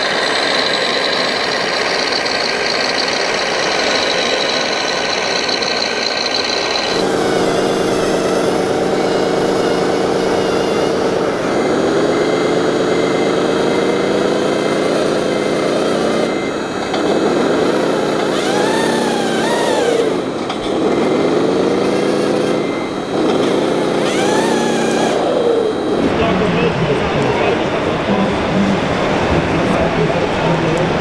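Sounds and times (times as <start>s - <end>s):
model vehicle motors whining: 0.0s - 26.1s.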